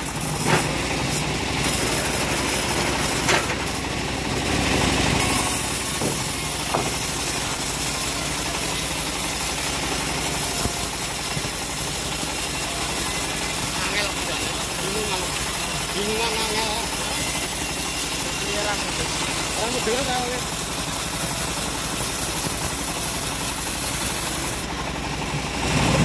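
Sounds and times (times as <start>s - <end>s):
bandsaw cutting through log: 0.0s - 24.7s.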